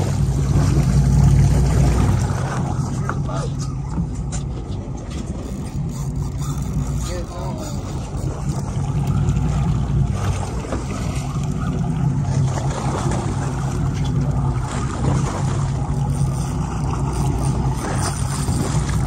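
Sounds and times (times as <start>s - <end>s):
boat engine rumbling: 0.0s - 19.0s
water noise: 0.0s - 19.0s.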